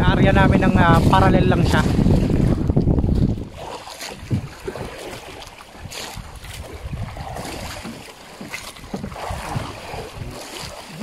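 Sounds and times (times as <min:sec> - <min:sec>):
sea water lapping and splashing: 0:00.0 - 0:11.0
wind rumbling on microphone: 0:00.0 - 0:11.0.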